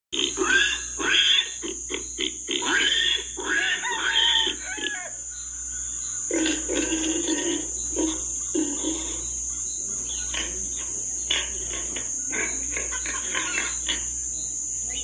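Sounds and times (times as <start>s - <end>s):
pig grunts: 0.2s - 5.1s, 6.3s - 9.4s, 10.1s - 14.2s
piglets squealing: 0.2s - 14.2s.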